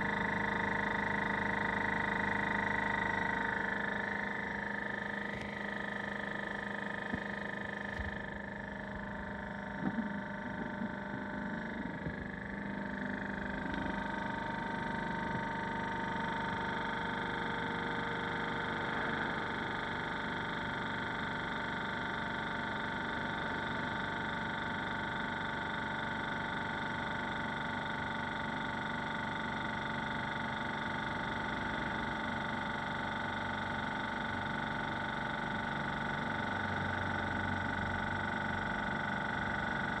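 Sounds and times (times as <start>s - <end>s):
air compressor drone: 0.0s - 40.0s.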